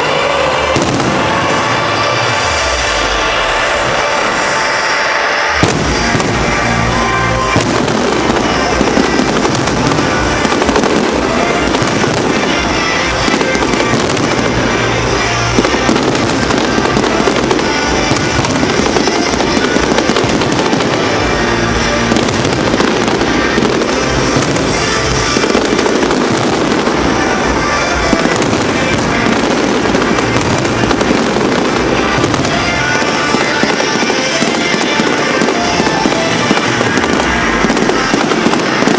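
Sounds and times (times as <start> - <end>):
fireworks bursting and crackling: 0.0 - 38.9
music playing: 0.0 - 38.9.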